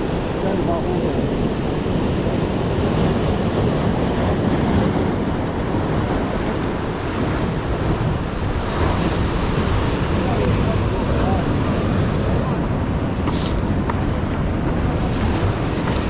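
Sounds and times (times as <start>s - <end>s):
surf breaking on shore: 0.0s - 16.0s
wind rumbling on microphone: 0.0s - 16.0s.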